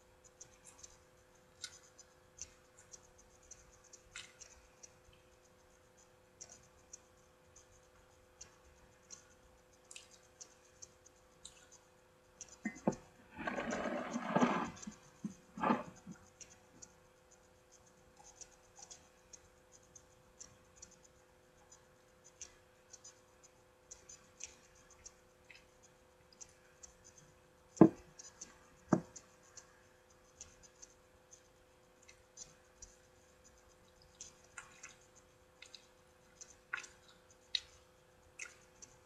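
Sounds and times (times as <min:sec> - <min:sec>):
faint steady hum: 0:00.0 - 0:39.0
hands handling food ticks: 0:00.1 - 0:39.0.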